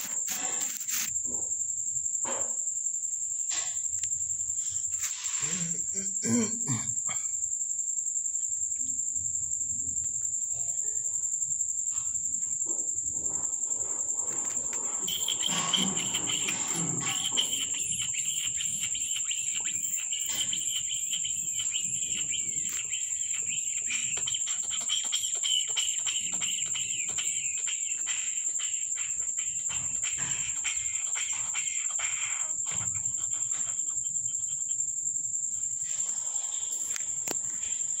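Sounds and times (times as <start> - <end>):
cricket trilling: 0.0 - 38.0.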